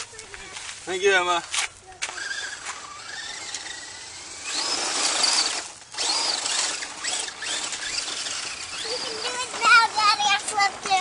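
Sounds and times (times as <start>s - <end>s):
electric toy truck motor whining: 2.0s - 11.0s.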